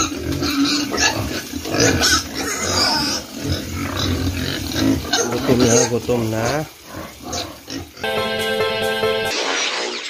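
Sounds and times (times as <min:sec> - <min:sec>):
pigs grunting and squealing: 0:00.0 - 0:08.1, 0:09.3 - 0:10.0.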